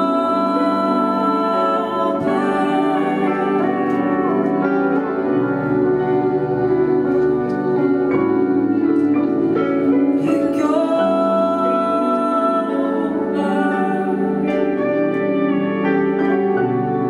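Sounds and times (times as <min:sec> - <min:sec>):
live band playing pop music: 0:00.0 - 0:17.0
sustained keyboard chords: 0:00.0 - 0:17.0.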